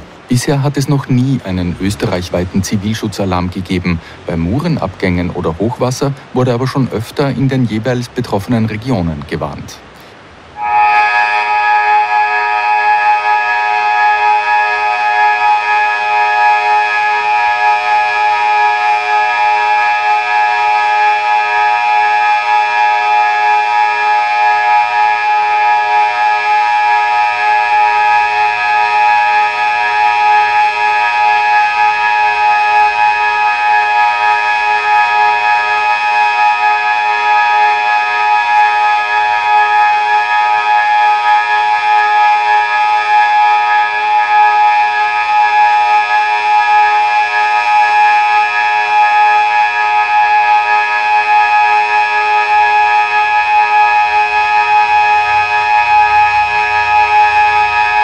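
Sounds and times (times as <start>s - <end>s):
siren steady tone: 10.4s - 58.0s.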